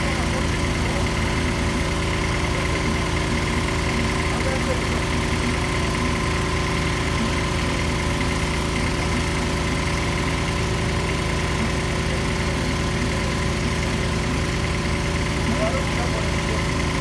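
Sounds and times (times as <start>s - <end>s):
drilling rig engine running: 0.0s - 17.0s.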